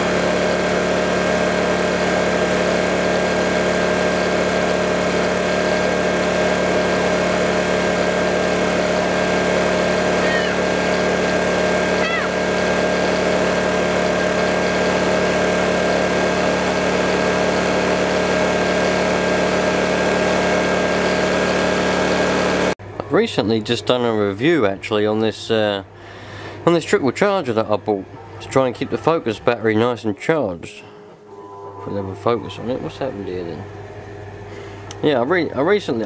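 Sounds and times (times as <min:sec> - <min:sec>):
generator engine running: 0:00.0 - 0:36.0.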